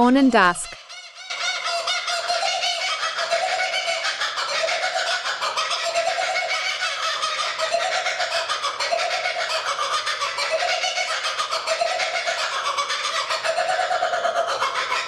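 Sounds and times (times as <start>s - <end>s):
kookaburra laughing call: 0.7s - 15.0s.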